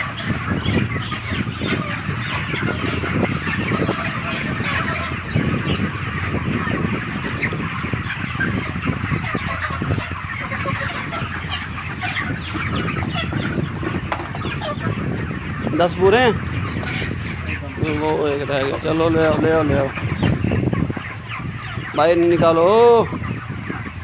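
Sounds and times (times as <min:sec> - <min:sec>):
chickens clucking and calling: 0:00.0 - 0:24.0.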